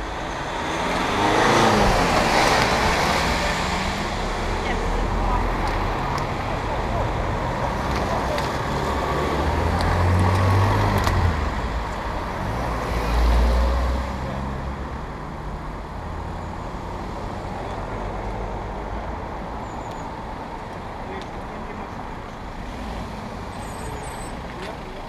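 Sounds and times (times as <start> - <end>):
cars driving past: 0.0 - 25.0
traffic hum: 0.0 - 25.0.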